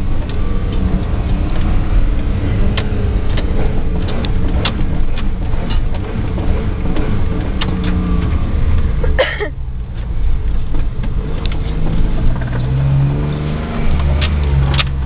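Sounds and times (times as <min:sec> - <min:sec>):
car engine running: 0:00.0 - 0:15.0
road rumble: 0:00.0 - 0:15.0
sharp clicks and knocks: 0:00.0 - 0:15.0.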